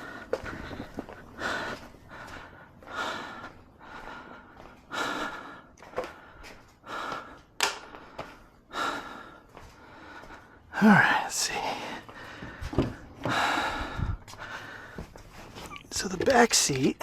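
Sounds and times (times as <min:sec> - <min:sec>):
person breathing heavily: 0:00.0 - 0:17.0.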